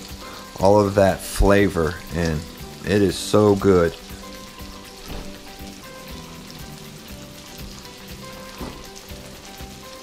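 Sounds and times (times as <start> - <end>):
chicken sizzling in a frying pan: 0.0 - 10.0
soft background music: 0.0 - 10.0.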